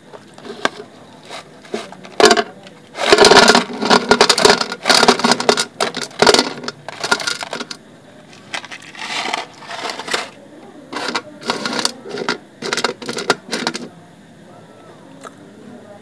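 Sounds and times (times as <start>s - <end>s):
clay chunks clattering onto plate: 0.4s - 13.9s.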